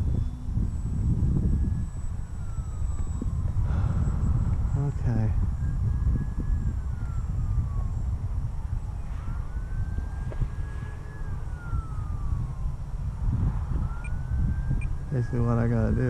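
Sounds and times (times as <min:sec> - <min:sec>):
model plane electric motor whine: 0:00.0 - 0:16.0
wind buffeting microphone: 0:00.0 - 0:16.0.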